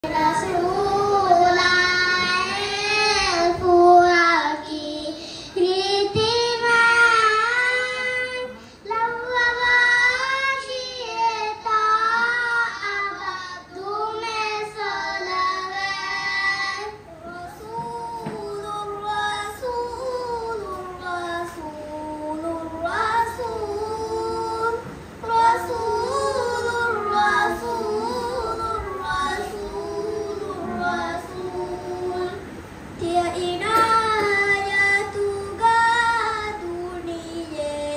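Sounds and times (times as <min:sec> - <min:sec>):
children singing unaccompanied: 0:00.0 - 0:37.9.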